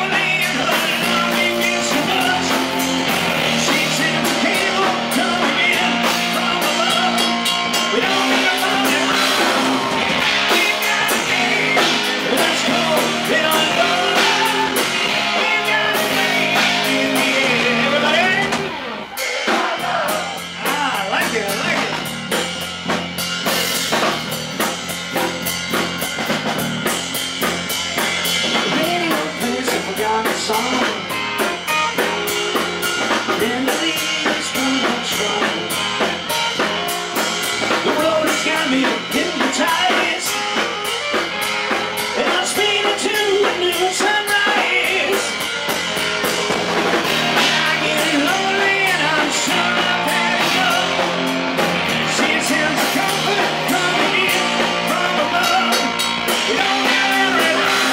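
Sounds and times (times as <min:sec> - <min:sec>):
man singing: 0:00.0 - 0:22.5, 0:28.0 - 0:57.9
drum kit: 0:00.0 - 0:57.9
electric guitar: 0:00.0 - 0:57.9.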